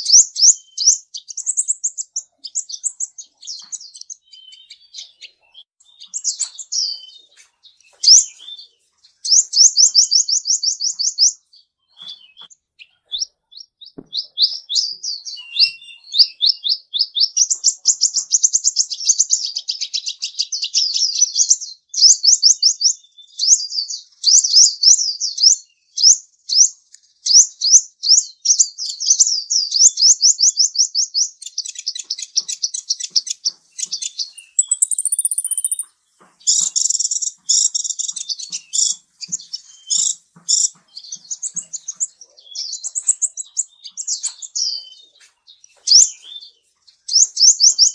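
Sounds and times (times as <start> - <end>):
bird singing trilled song: 0.0 - 47.9.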